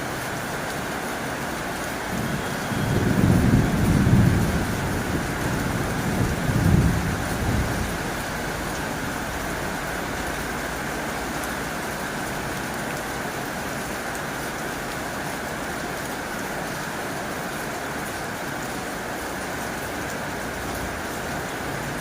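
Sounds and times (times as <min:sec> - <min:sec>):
heavy rain on a tin roof: 0:00.0 - 0:22.0.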